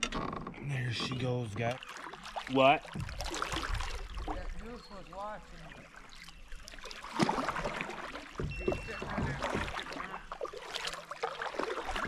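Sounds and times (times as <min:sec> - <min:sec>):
water dripping from paddle: 0:00.6 - 0:12.0
kayak paddle splashing in water: 0:00.9 - 0:12.0.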